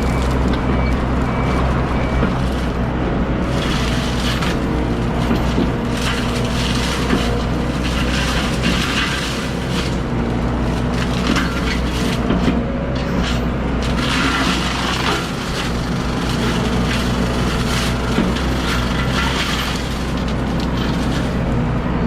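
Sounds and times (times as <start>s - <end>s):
branches cracking and snapping: 0.0s - 21.8s
diesel excavator engine running: 0.0s - 22.0s.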